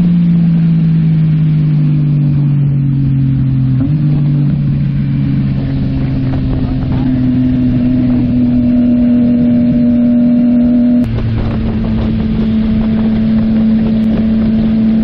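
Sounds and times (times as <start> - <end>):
motorcycle engine at steady revs: 0.0 - 15.0.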